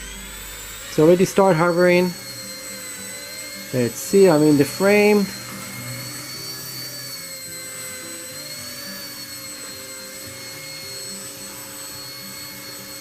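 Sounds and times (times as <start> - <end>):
rc helicopter motors whining: 0.0 - 13.0.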